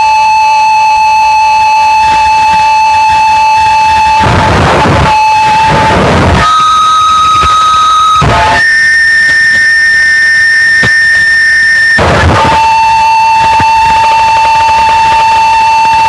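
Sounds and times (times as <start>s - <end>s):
piercing noise music whine: 0.0s - 16.0s
distorted noise blast: 1.4s - 16.0s.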